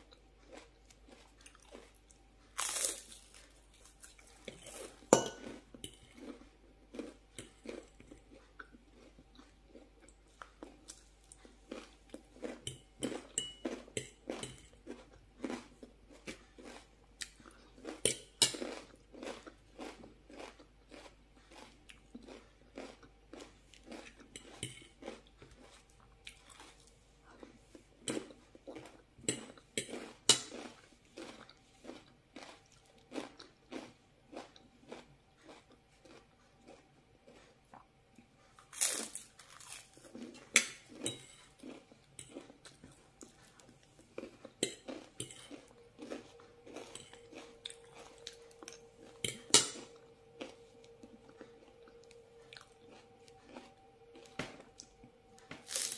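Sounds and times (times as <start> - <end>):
crunching and chewing cracker: 0.0 - 55.9.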